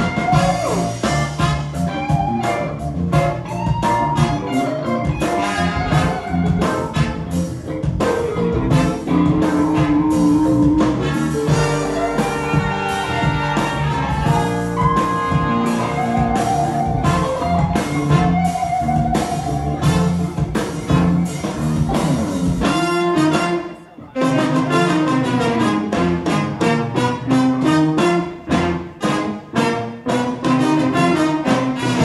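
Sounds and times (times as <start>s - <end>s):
drum kit beat: 0.0s - 32.0s
electric guitar: 0.0s - 32.0s
horn section: 0.0s - 32.0s
keyboard: 0.0s - 32.0s.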